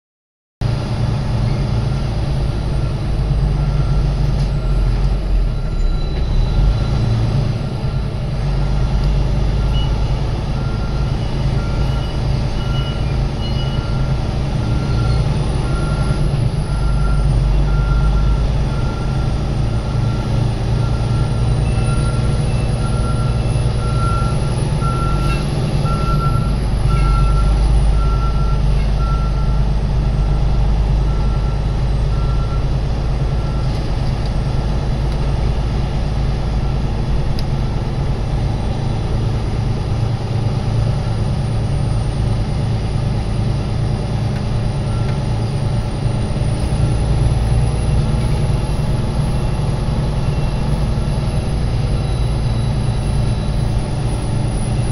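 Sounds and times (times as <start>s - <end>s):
truck engine rumbling: 0.6s - 54.9s.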